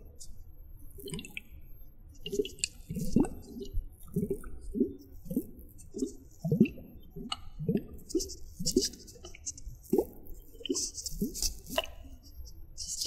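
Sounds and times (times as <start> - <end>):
wet bubbly squelches: 0.9 - 12.3.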